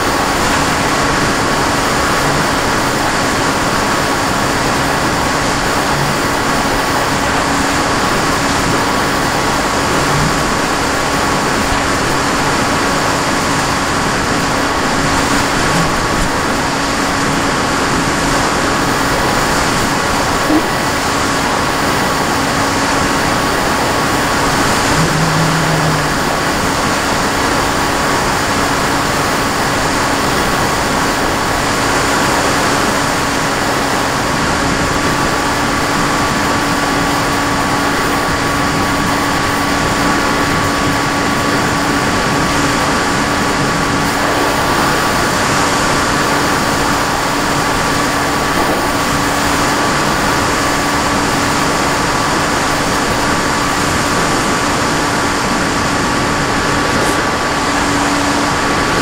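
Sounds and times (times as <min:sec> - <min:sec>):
model aircraft motor whine: 0:00.0 - 0:59.0.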